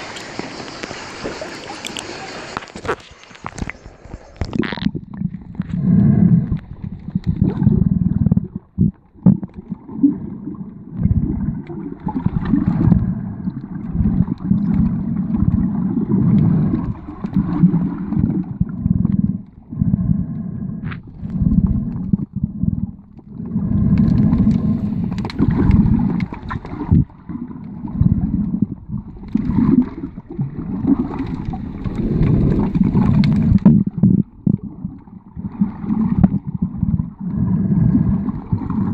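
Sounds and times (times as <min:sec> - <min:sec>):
underwater rushing and gurgling: 0:00.0 - 0:38.9.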